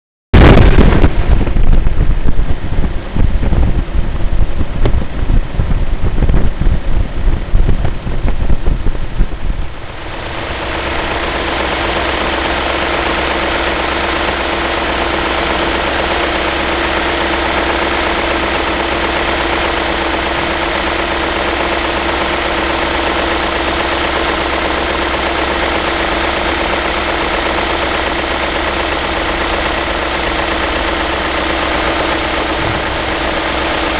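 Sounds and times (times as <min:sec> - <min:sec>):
car engine running with rattle: 0:00.4 - 0:33.9.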